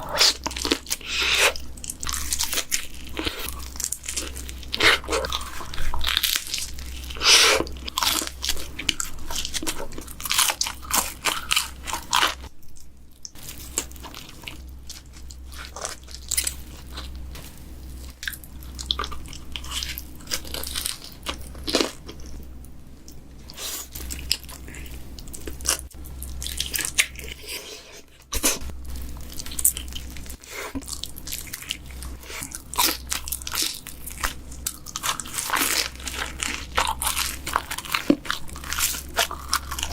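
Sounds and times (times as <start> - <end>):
pizza crust crunching: 0.0 - 22.4, 23.4 - 39.9
steady low hum: 0.0 - 39.9.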